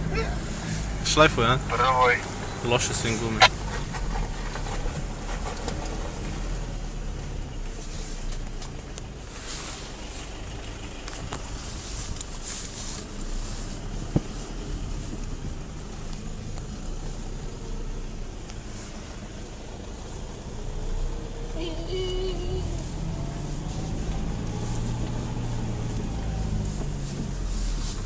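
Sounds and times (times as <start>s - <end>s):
diesel engine running at low revs: 0.0s - 28.0s.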